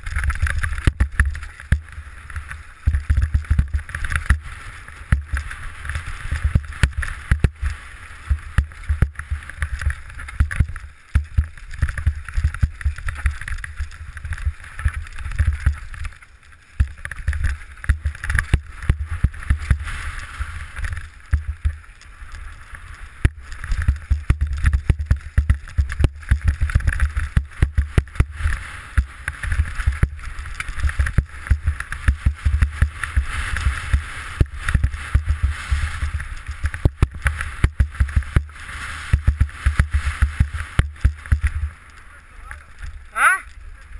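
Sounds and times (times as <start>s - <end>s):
bike rattling over stones: 0.0s - 43.9s.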